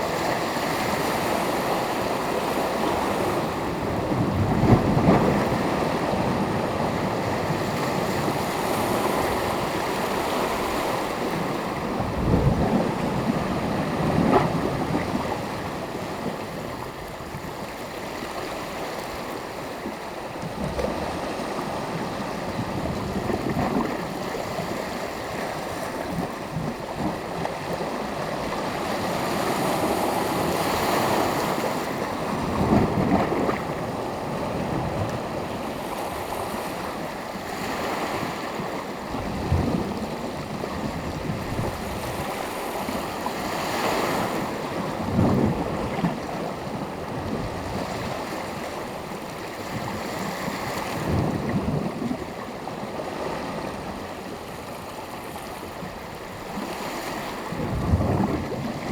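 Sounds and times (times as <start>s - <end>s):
wind buffeting microphone: 0.0s - 17.7s, 20.5s - 53.8s, 57.4s - 58.9s.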